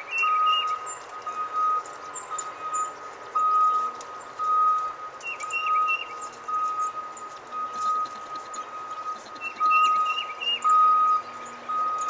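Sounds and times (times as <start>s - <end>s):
backup alarm beeping: 0.0s - 12.0s
bird chirps: 0.0s - 12.0s.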